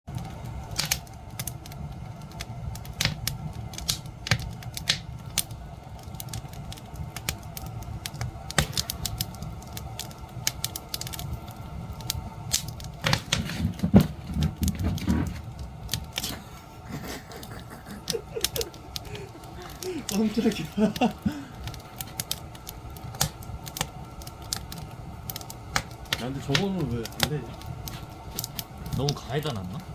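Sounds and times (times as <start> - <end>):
low rumble of flames: 0.1 - 29.9
wood crackling and popping: 0.1 - 29.9.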